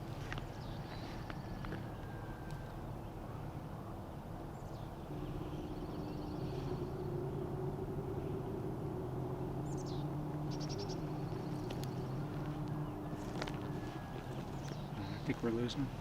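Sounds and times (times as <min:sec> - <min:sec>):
low drone: 0:00.0 - 0:16.0
songbirds chirping and trilling: 0:00.0 - 0:16.0.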